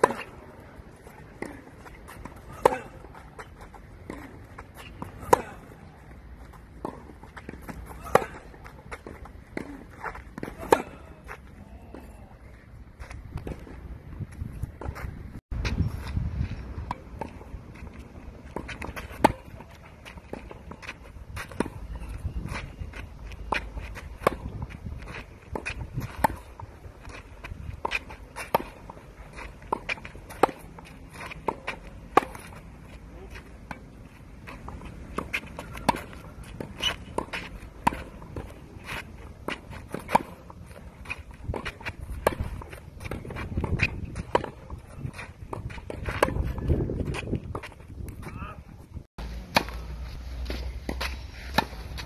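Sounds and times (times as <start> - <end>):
footsteps on clay: 0.2 - 52.0.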